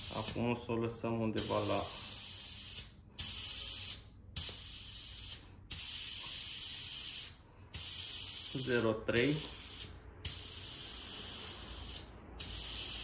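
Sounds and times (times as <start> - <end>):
air hissing out of a tyre valve: 0.0 - 0.4, 1.4 - 13.0.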